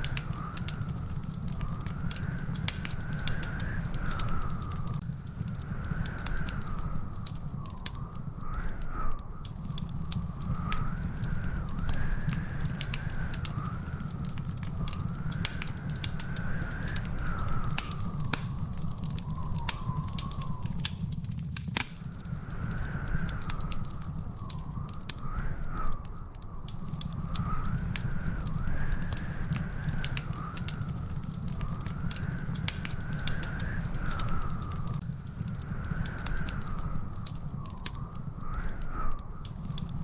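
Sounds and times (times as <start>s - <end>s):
thin wavering whistling tone: 0.0s - 21.4s, 22.0s - 40.0s
wood fire crackling and popping: 0.0s - 40.0s.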